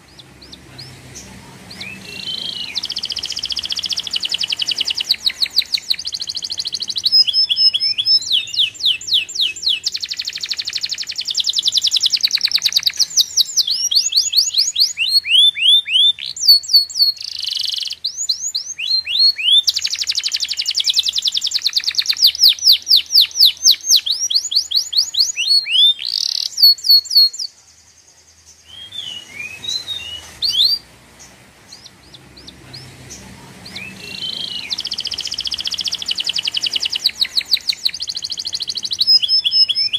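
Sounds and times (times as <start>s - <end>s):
bird calls: 0.0s - 27.7s, 28.3s - 39.9s
bird singing: 0.0s - 39.9s.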